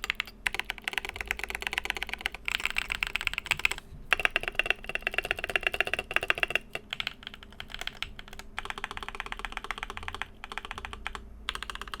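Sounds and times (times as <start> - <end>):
faint fan hum: 0.0 - 12.0
fast mechanical keyboard typing: 0.0 - 12.0.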